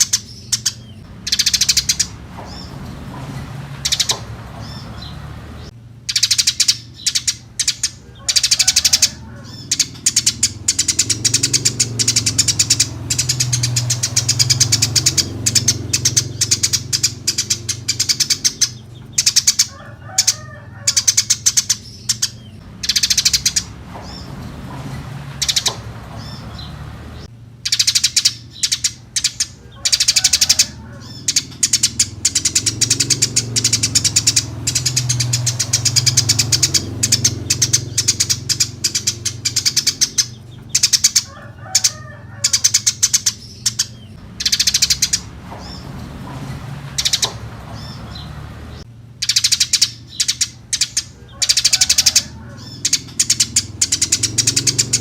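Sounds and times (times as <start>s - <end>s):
sparrows chirping: 0.0s - 55.0s.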